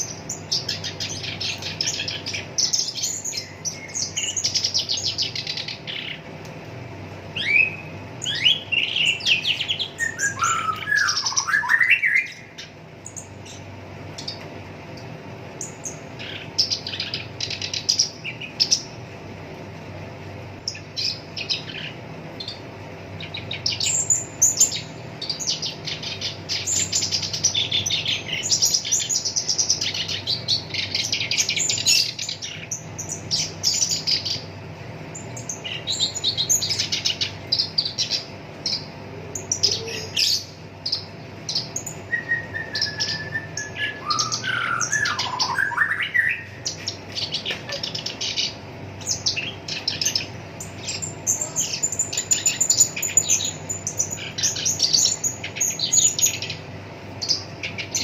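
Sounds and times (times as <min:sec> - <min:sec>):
faint steady hum: 0:00.0 - 0:58.0
warbler chattering song: 0:00.0 - 0:58.0.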